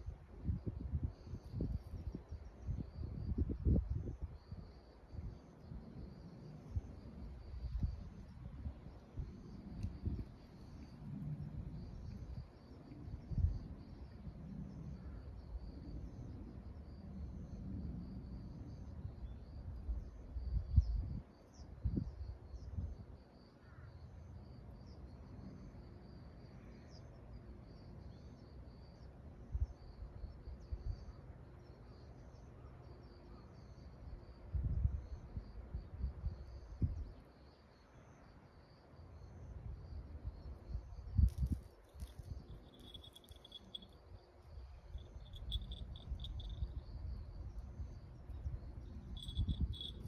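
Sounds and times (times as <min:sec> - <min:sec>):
insects chirping: 0:00.0 - 0:50.0.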